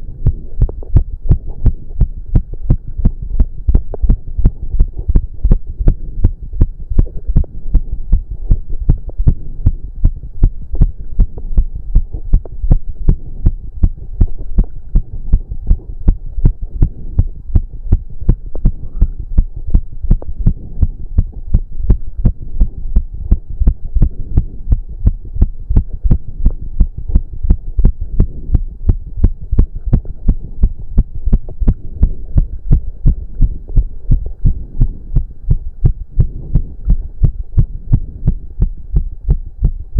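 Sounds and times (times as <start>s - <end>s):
fast heartbeat thuds: 0.0s - 39.9s.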